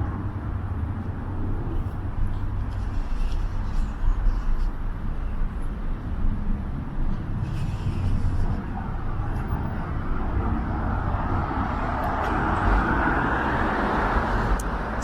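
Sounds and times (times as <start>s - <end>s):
cars passing rumble: 0.0s - 15.0s
vehicle tyre and engine noise: 0.0s - 15.0s.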